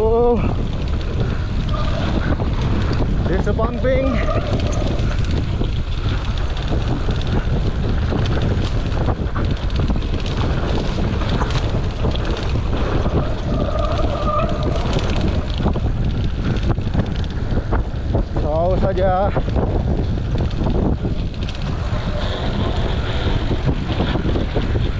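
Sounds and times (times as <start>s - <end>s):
bike rattling over bumps: 0.0s - 24.9s
wind buffeting microphone: 0.0s - 24.9s.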